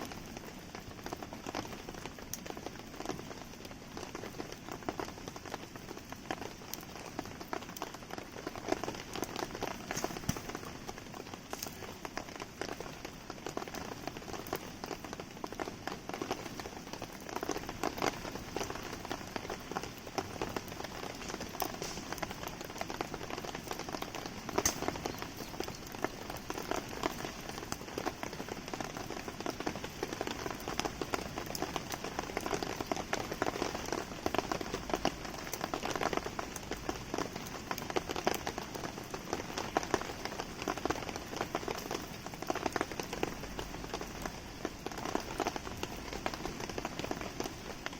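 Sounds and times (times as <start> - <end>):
fire popping: 0.0 - 47.9
rain pattering: 0.0 - 47.9
wood fire crackling: 0.0 - 47.9.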